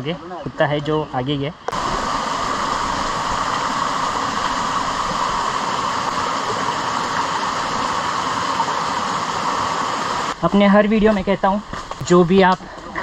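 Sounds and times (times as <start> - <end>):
fast-flowing water rushing: 1.6 - 13.0.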